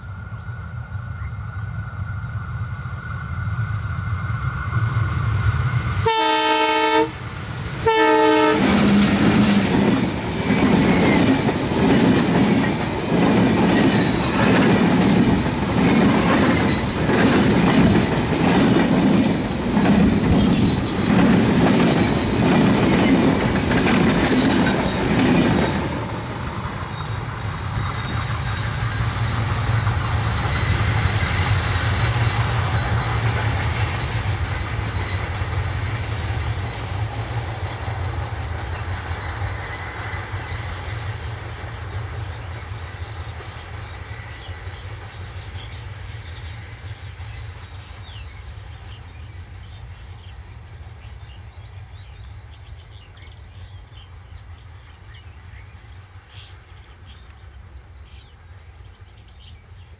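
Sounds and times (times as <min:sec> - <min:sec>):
train rumble: 0:00.0 - 0:59.9
train wheels on rails: 0:00.0 - 0:59.9.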